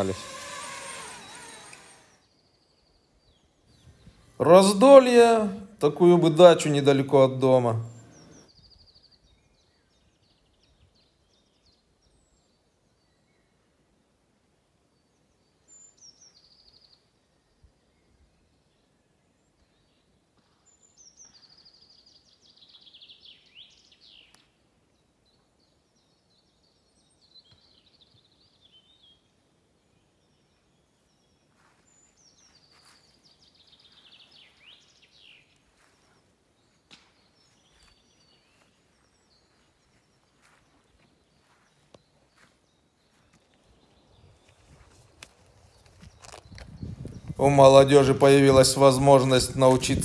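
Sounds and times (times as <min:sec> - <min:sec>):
faint songbird singing: 0:00.0 - 0:50.0.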